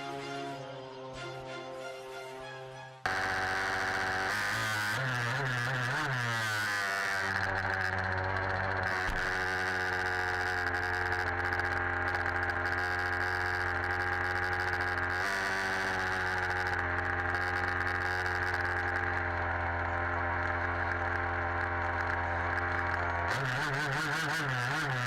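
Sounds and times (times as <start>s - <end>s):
two-stroke engine idling: 3.0s - 25.0s.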